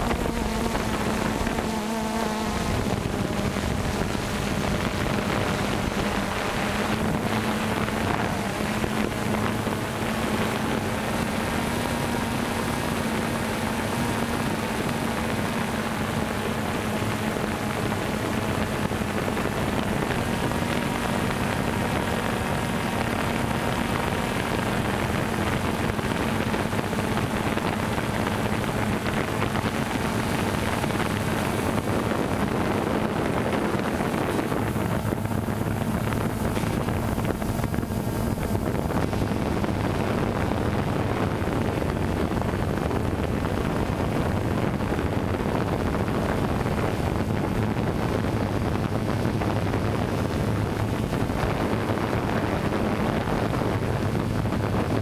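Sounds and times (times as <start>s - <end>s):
drone propellers buzzing: 0.0s - 55.0s
wind noise: 0.0s - 55.0s.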